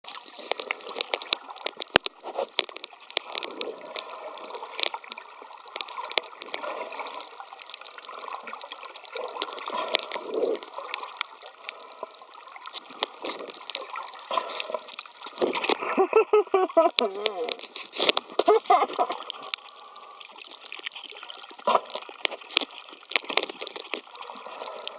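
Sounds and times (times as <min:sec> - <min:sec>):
sharp clicks and crackles: 0:00.0 - 0:24.9
water gurgling underwater: 0:00.0 - 0:24.9.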